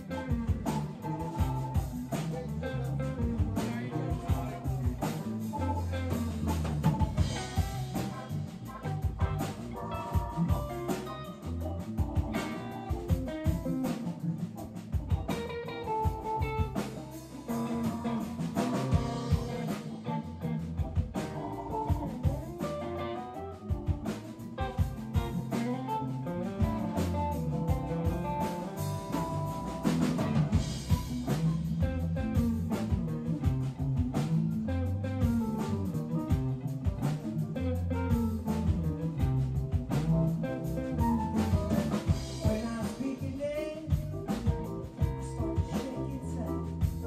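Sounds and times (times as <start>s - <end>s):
bass guitar: 0.0s - 47.0s
drum kit: 0.0s - 47.0s
electric guitar: 0.0s - 47.0s.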